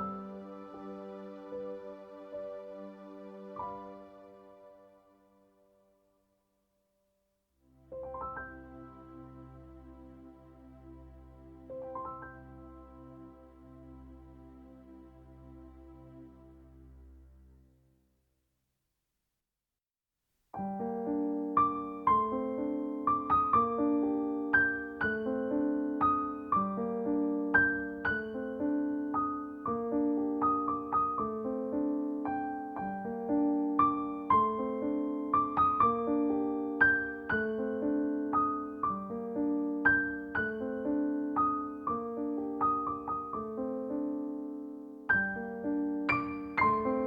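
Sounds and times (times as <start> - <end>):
gentle piano piece: 0.0 - 6.1, 7.8 - 17.6, 20.6 - 47.0.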